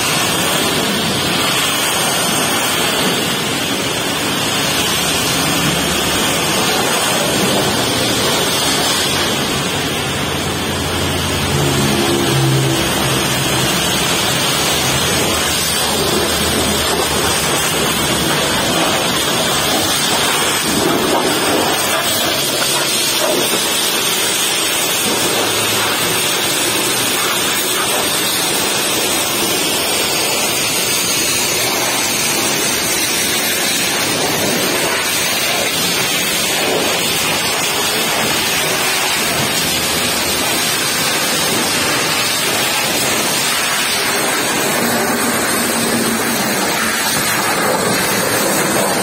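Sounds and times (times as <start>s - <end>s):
pressure washer spray hissing: 0.0s - 49.0s.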